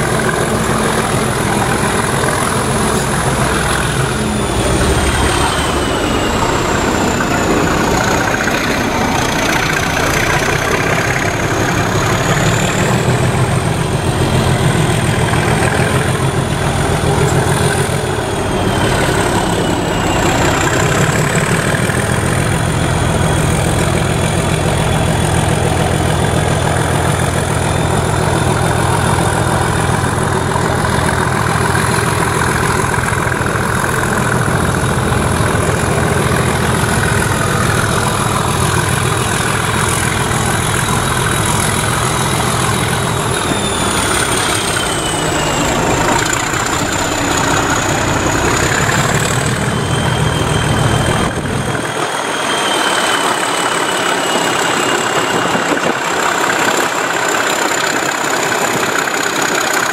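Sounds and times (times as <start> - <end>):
diesel locomotive engine rumbling: 0.0 - 59.9
turbocharger whistle: 0.1 - 59.9.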